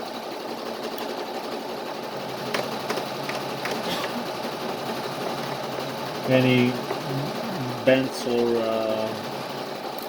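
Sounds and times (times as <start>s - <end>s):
machine whirring: 0.0s - 10.0s.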